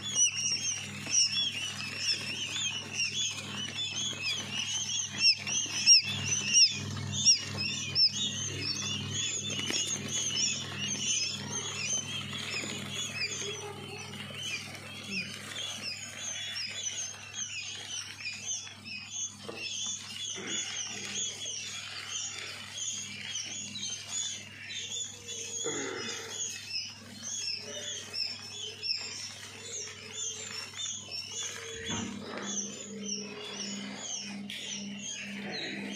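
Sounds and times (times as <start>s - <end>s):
quail chicks peeping: 0.0s - 35.9s.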